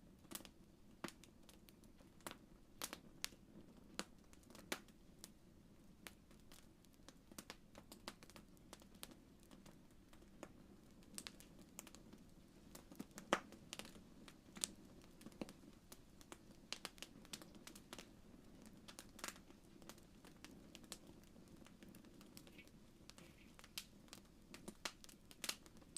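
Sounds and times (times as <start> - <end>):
campfire crackling and popping: 0.2 - 25.9.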